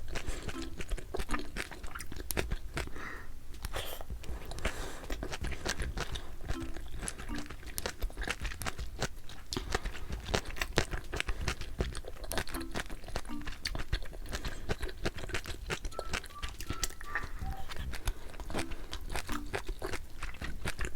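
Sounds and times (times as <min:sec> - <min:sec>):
person chewing food: 0:00.0 - 0:20.9.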